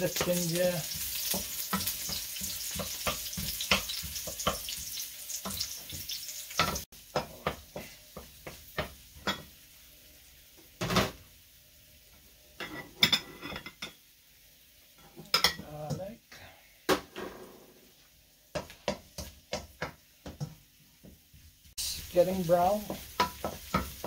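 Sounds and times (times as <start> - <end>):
ginger sizzling in oil: 0.0 - 16.3, 17.4 - 24.0.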